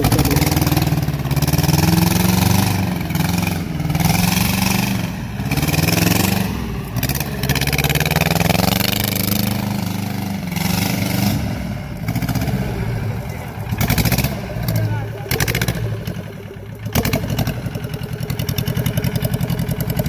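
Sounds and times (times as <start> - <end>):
small tractor engine running: 0.0 - 20.0.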